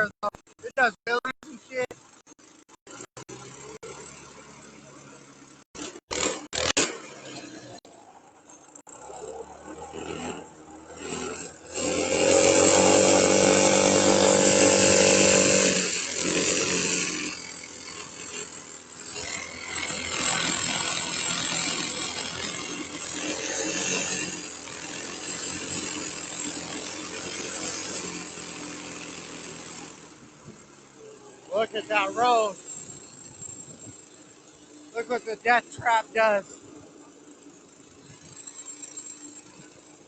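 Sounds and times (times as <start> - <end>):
go-kart engine revving: 0.0 - 40.0.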